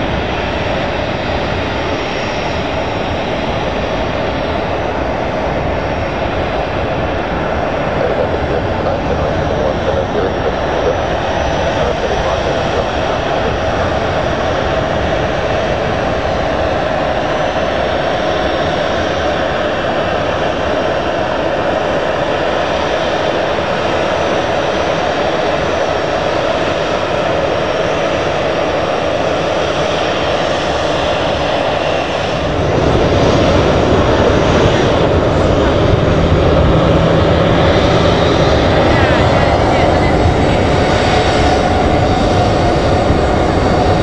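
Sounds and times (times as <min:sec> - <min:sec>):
jet engines running: 0:00.0 - 0:23.4, 0:30.0 - 0:44.0.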